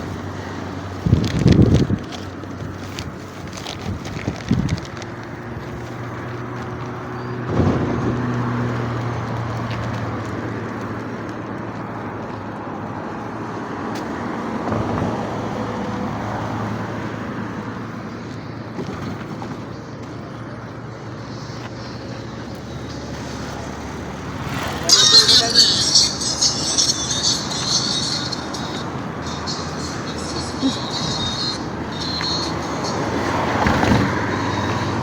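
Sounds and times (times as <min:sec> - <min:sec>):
road and traffic noise: 0:00.0 - 0:35.0
vehicle engine hum: 0:00.0 - 0:35.0.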